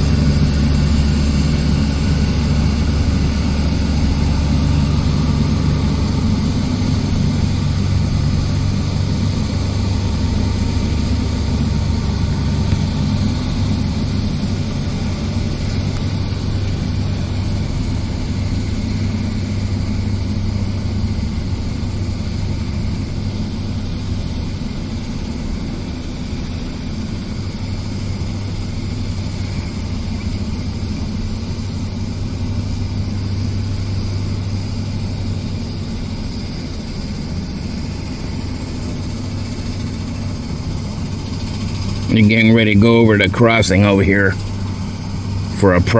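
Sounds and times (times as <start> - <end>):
engine humming steadily: 0.0 - 45.9.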